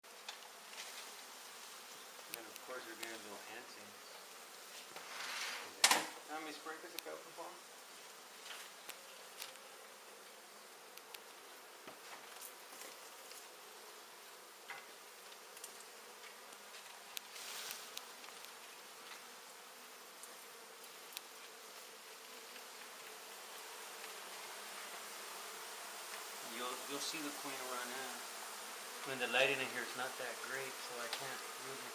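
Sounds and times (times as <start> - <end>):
honey bees buzzing: 0.0 - 31.9.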